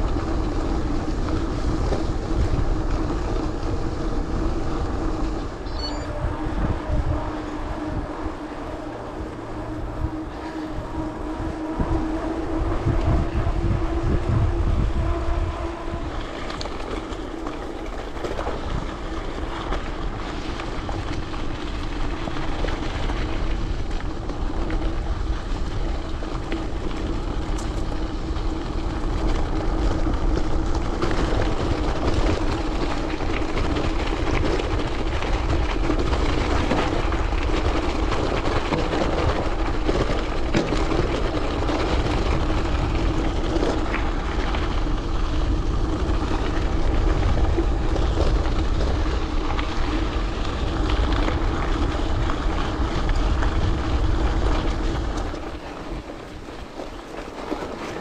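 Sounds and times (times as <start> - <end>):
bike tyres rolling: 0.0 - 58.0
wind buffeting microphone: 0.0 - 58.0.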